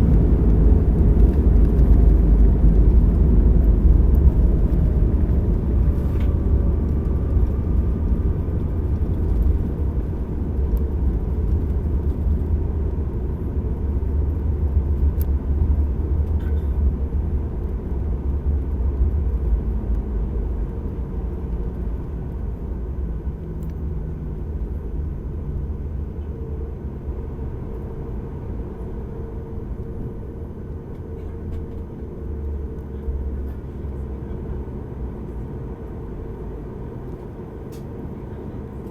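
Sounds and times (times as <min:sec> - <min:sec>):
deep rumble of aircraft engines: 0:00.0 - 0:38.9.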